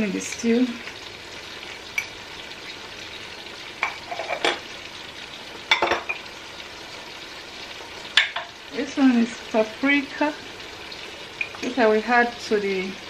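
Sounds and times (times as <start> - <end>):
food hissing in pots: 0.0 - 13.0.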